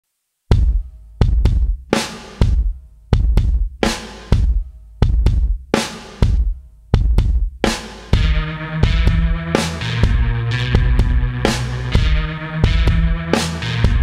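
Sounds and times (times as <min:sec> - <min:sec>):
slow heavy drum beat: 0:00.5 - 0:14.0.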